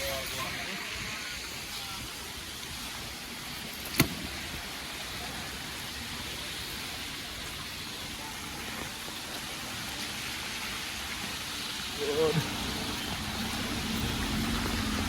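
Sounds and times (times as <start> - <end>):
rushing water from heavy rain: 0.0 - 15.0.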